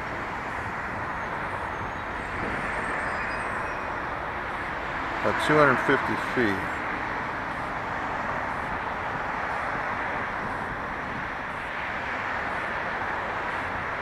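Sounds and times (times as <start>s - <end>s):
road traffic hiss: 0.0s - 14.0s.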